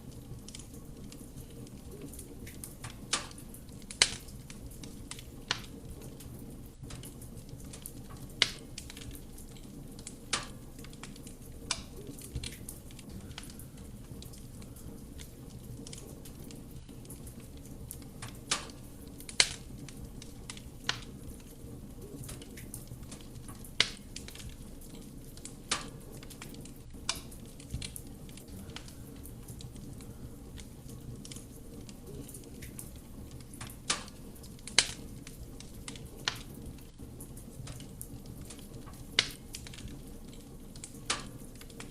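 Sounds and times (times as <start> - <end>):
soft roar of flame: 0.0 - 41.9
wood crackling and popping: 0.0 - 41.9.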